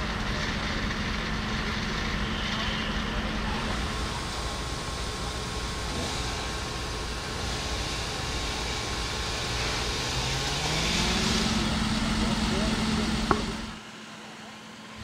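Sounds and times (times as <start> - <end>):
engines running: 0.0 - 15.0.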